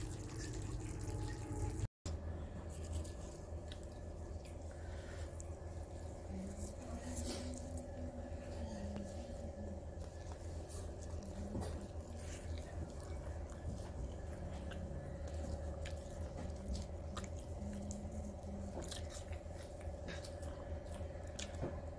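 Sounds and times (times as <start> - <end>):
steady hum: 0.0 - 21.9
person chewing food: 2.6 - 8.1, 9.0 - 21.9.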